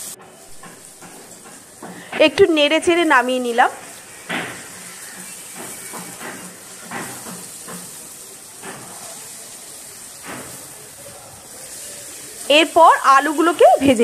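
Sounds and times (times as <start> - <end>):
okra sizzling in oil: 0.0 - 14.0
spatula scraping wok: 0.0 - 14.0.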